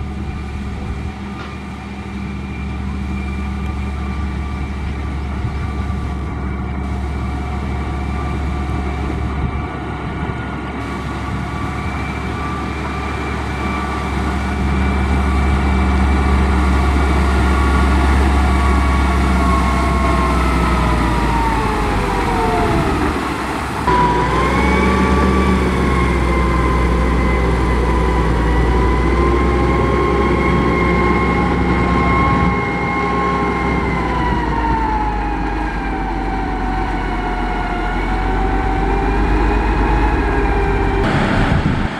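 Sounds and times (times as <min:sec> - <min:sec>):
diesel engine whining and droning: 0:00.0 - 0:41.9.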